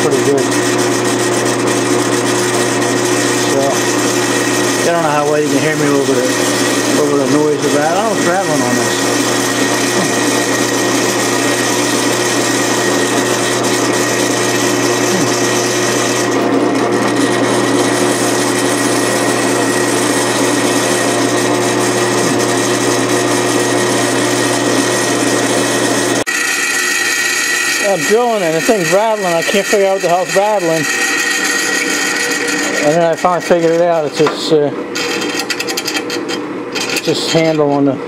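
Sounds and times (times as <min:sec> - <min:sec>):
drill bit cutting metal: 0:00.0 - 0:38.0
motor hum: 0:00.0 - 0:38.0.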